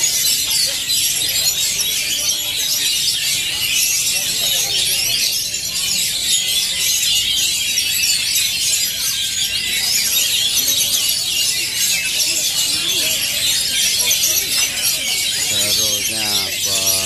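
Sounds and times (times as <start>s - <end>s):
chorus of birds singing: 0.0s - 17.0s.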